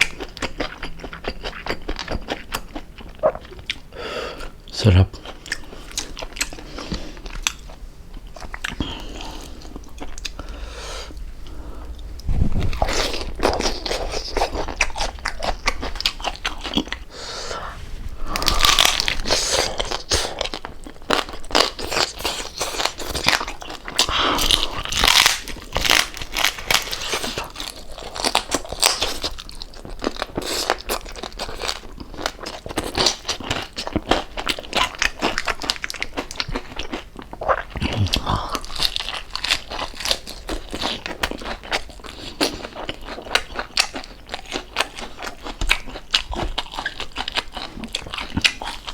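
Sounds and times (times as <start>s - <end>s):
crunching and chewing crispy skin: 0.0s - 3.9s, 5.2s - 10.5s, 12.6s - 17.1s, 18.3s - 48.9s.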